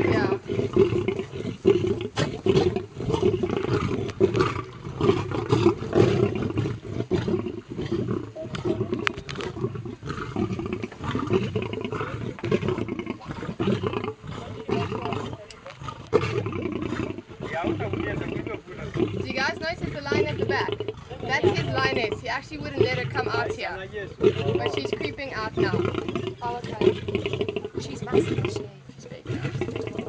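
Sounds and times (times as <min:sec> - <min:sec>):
lions making low rough calls: 0:00.0 - 0:30.0.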